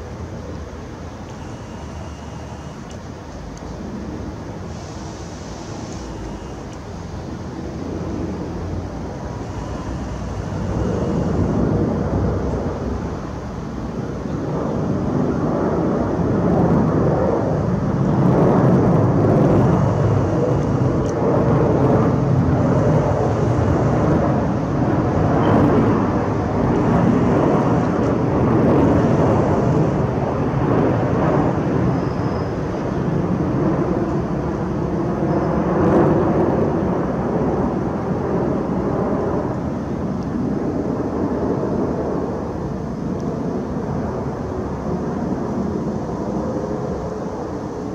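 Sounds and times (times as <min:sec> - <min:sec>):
jet engine rumble overhead: 0:00.0 - 0:47.9.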